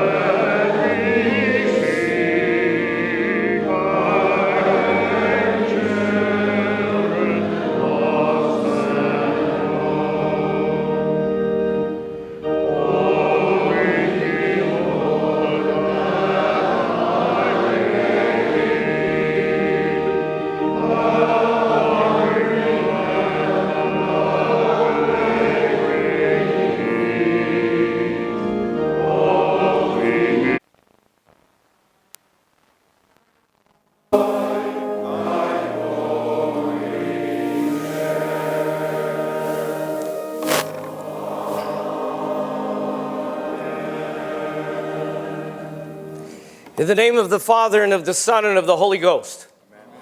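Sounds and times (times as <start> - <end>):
congregation singing a hymn: 0.0 - 30.6, 34.2 - 49.3.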